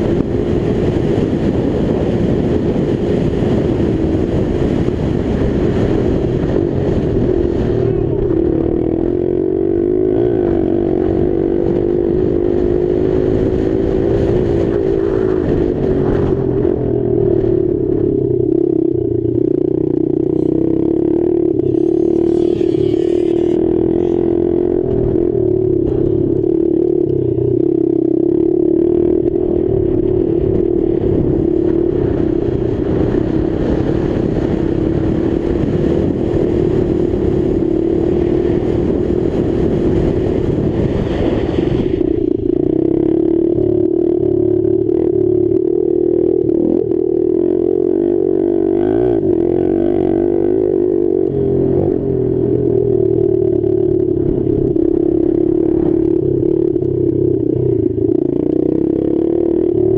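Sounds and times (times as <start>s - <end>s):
dirt bike engine running hard: 0.0s - 59.9s.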